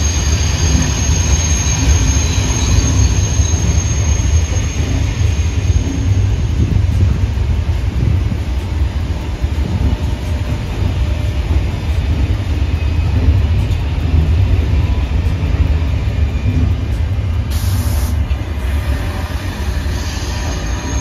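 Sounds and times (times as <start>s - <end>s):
train coaches rumbling past: 0.0s - 21.0s.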